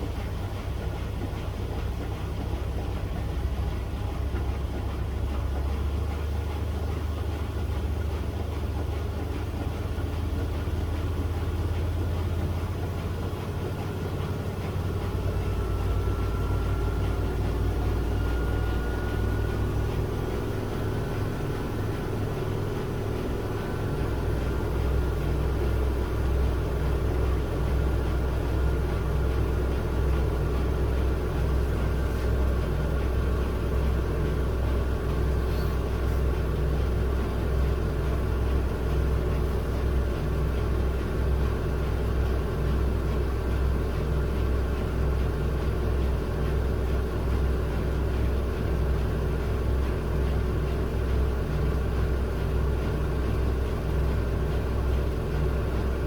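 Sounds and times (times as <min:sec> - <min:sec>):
washing machine drum spinning: 0:00.0 - 0:56.0.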